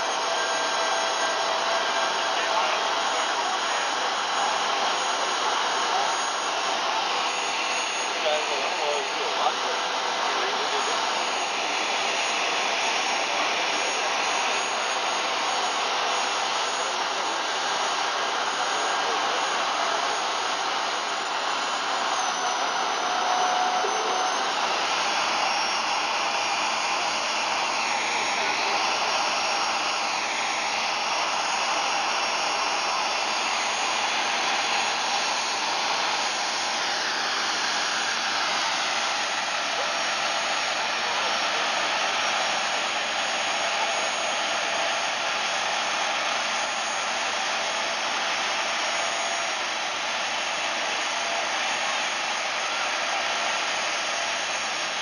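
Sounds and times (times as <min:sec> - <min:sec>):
jet turbine roar with whine: 0:00.0 - 0:55.0.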